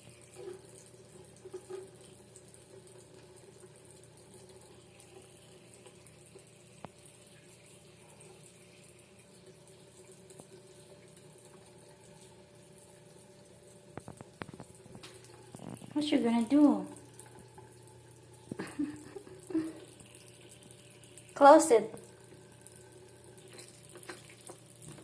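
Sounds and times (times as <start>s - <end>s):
water tap running into sink: 0.0s - 25.0s.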